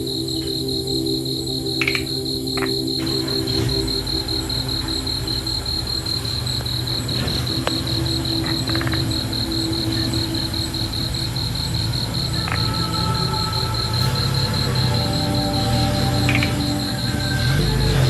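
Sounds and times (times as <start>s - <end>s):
cricket chirping: 0.0s - 18.0s
low steady hum: 0.0s - 18.0s.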